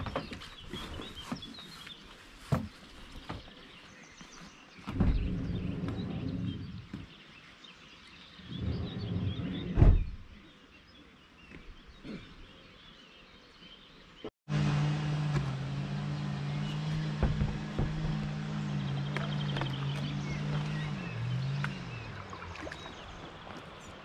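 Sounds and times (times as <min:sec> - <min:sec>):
faint birdsong: 0:00.0 - 0:14.3, 0:15.8 - 0:24.0.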